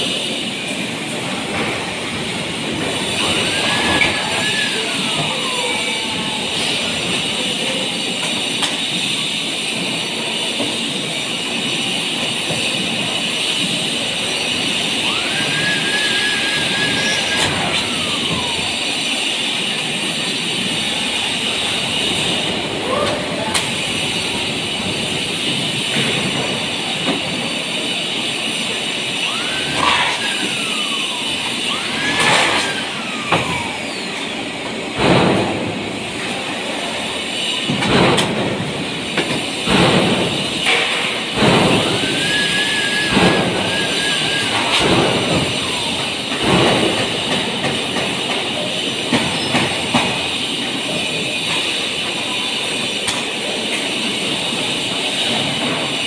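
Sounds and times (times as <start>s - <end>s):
hissing machinery din: 0.0s - 56.0s.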